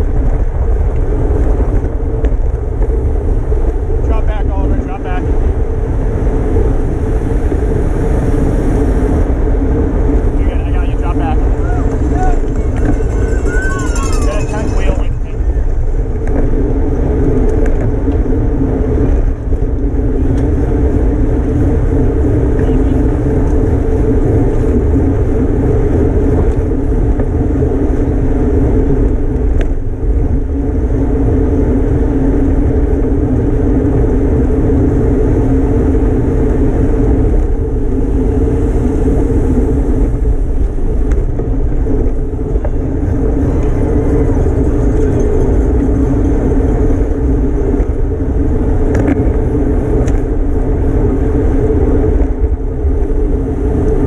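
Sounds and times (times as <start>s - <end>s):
tyres humming on road: 0.0s - 54.0s
wind rushing on microphone: 0.0s - 54.0s.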